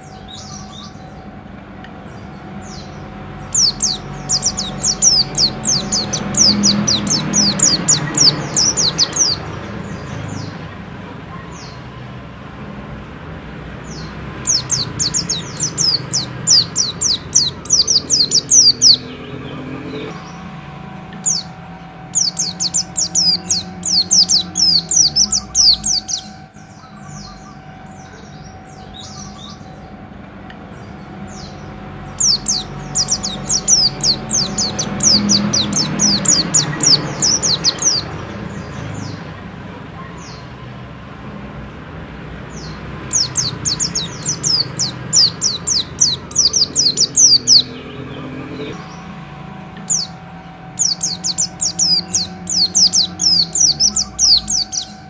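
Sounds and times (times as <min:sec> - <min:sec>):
bird singing high falling chirps: 0:02.1 - 0:10.7, 0:13.8 - 0:30.1, 0:30.7 - 0:39.4, 0:42.5 - 0:55.0.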